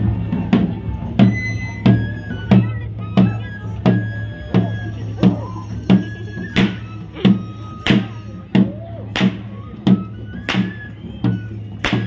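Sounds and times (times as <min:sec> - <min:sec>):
drum struck steadily: 0:00.0 - 0:12.0
high flute long notes: 0:01.2 - 0:12.0.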